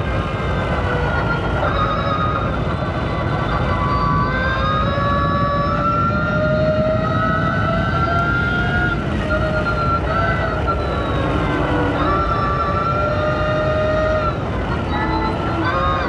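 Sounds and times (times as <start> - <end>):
race car engine whining: 0.0 - 16.0
road rumble: 0.0 - 16.0
wind noise: 0.0 - 16.0.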